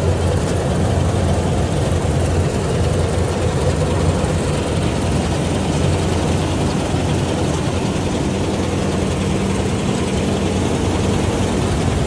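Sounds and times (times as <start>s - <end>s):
auger discharging grain: 0.0s - 12.0s
combine harvester running: 0.0s - 12.0s.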